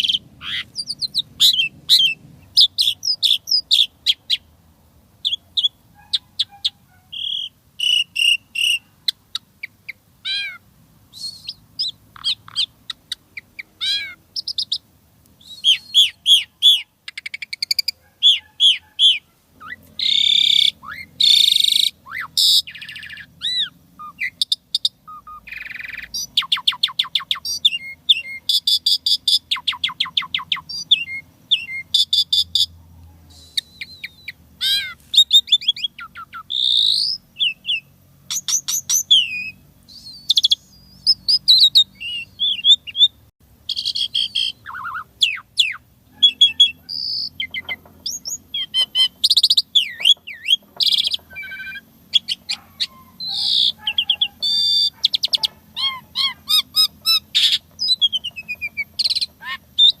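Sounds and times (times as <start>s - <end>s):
starling singing: 0.0s - 4.6s, 5.2s - 60.0s.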